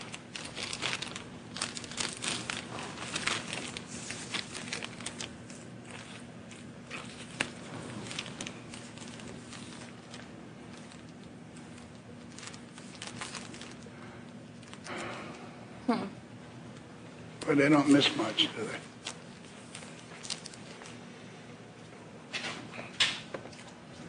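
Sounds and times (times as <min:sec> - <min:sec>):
rustling and crinkling: 0:00.0 - 0:15.4, 0:17.9 - 0:24.0
faint steady hum: 0:00.0 - 0:24.0.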